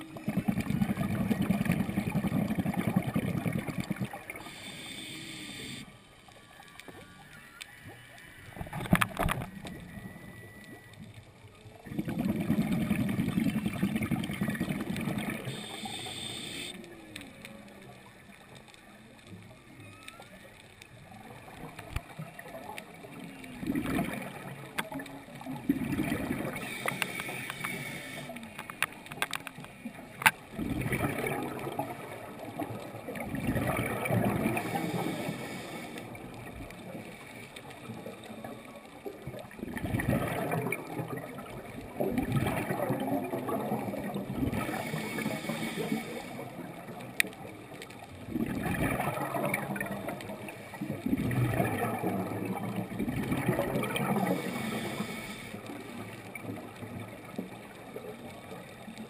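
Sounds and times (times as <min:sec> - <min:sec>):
water gurgling and bubbling: 0:00.0 - 0:05.8, 0:11.8 - 0:16.7, 0:21.2 - 0:59.0.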